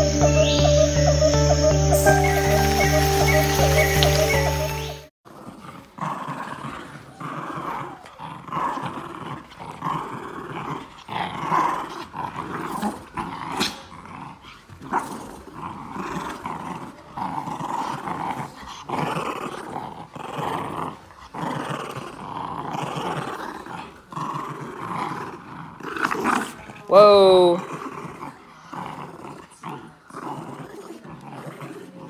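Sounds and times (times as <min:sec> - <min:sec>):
puppy growling: 0:05.3 - 0:32.0.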